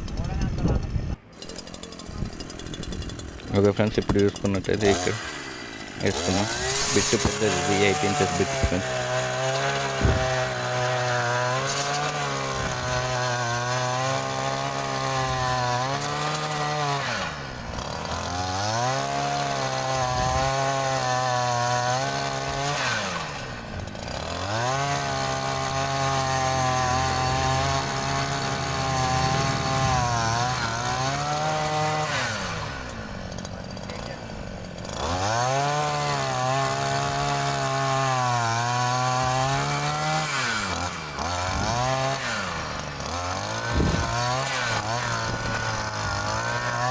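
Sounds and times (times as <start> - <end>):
earth auger engine boring: 0.0 - 46.9.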